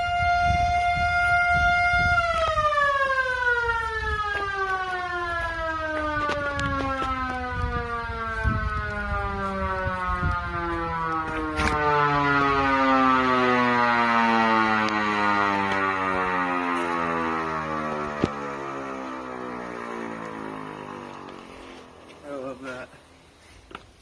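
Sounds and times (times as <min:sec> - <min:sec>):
air raid siren wailing: 0:00.0 - 0:22.7.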